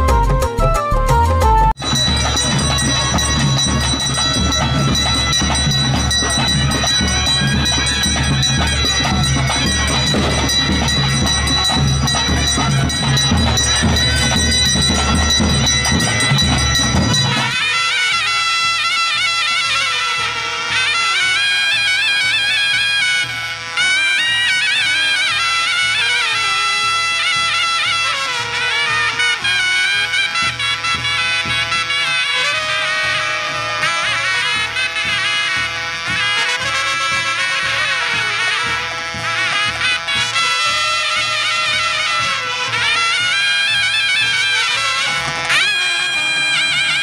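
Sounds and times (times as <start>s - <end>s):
reed instrument wavering melody: 0.0s - 31.4s, 38.4s - 47.0s
droning wind instrument: 0.0s - 47.0s
steady drum beat: 0.0s - 47.0s.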